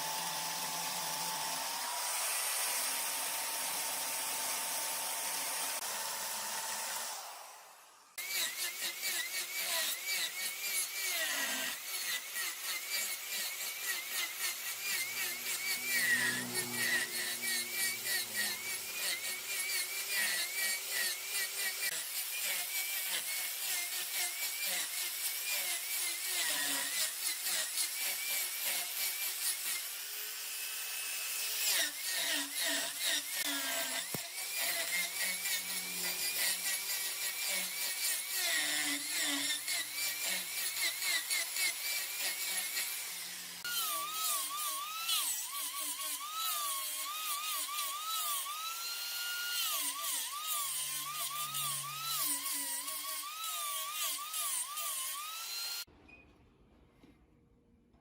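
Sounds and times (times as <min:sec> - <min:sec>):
cutting tool chatter: 0:00.0 - 0:30.0, 0:31.1 - 0:55.9
wood lathe whining: 0:00.0 - 0:55.9.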